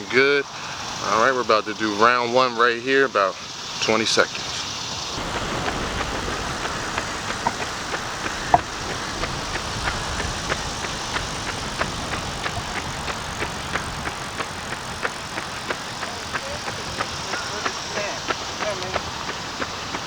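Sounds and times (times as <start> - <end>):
steady hiss: 0.0 - 20.0
running footsteps: 3.4 - 20.0.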